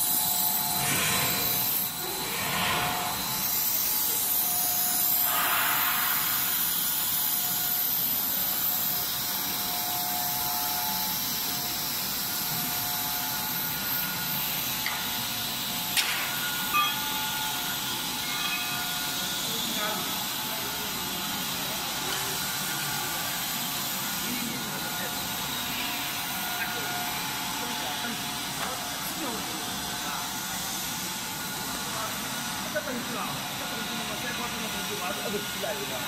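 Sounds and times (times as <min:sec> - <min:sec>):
machine hiss: 0:00.0 - 0:36.0.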